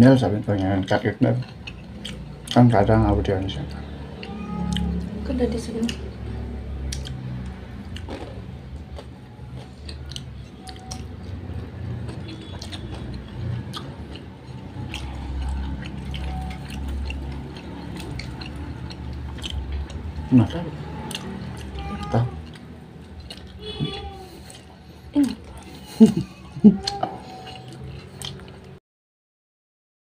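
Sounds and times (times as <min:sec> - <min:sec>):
chewing and wet mouth clicks: 0:00.6 - 0:02.8, 0:03.5 - 0:05.0, 0:05.8 - 0:28.8.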